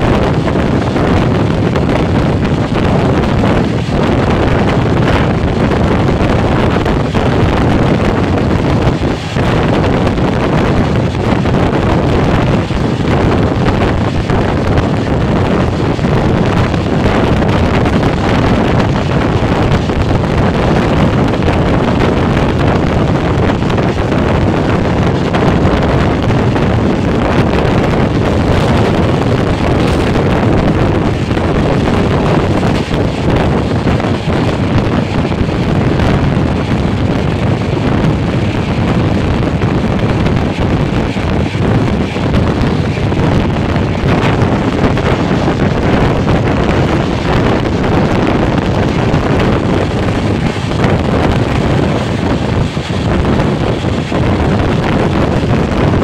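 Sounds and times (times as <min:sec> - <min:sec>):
train running at speed: 0:00.0 - 0:56.0
wind buffeting microphone: 0:00.0 - 0:56.0.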